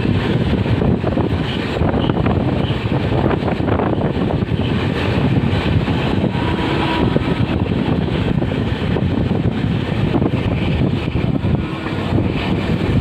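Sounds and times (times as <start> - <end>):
train rumbling and rattling: 0.0 - 13.0
wind buffeting microphone: 0.0 - 13.0.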